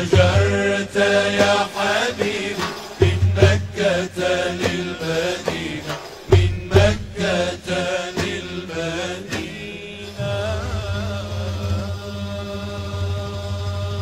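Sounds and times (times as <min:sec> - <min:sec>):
hand drum strokes: 0:00.0 - 0:12.0
male ensemble singing: 0:00.0 - 0:14.0
man singing ornamented line: 0:00.0 - 0:14.0.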